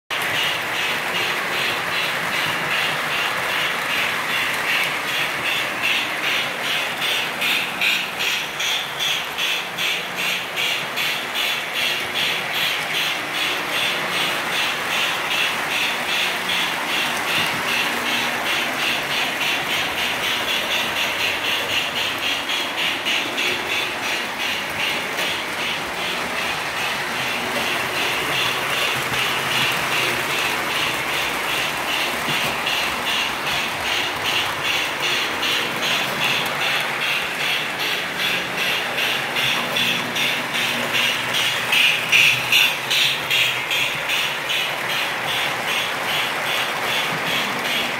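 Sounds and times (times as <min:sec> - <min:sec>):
train wheels clicking on track: 0:00.1 - 0:47.9.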